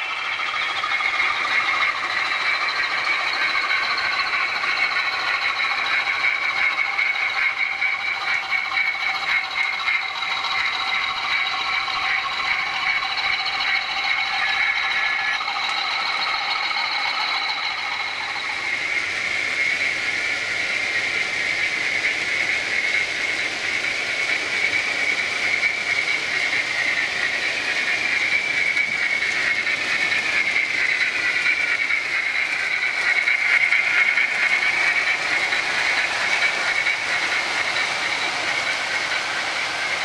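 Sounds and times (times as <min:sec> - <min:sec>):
model train whining: 0:00.0 - 0:40.0.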